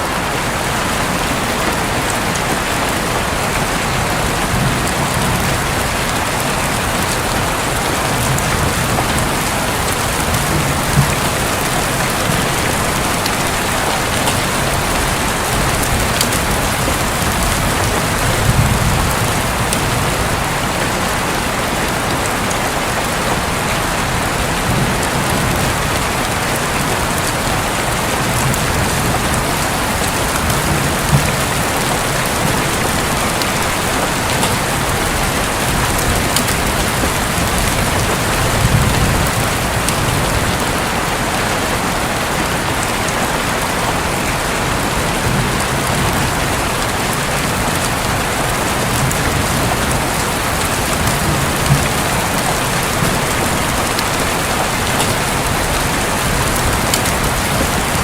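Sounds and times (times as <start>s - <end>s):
rain pouring on a roof: 0.0s - 58.0s
low thunder rumbles: 3.4s - 20.7s, 24.4s - 40.8s, 44.4s - 58.0s.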